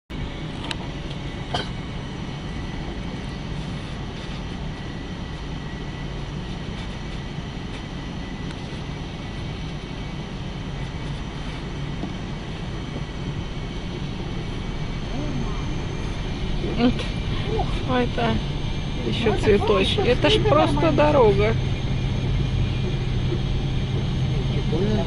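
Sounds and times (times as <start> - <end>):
road vehicle driving: 0.2 - 25.0.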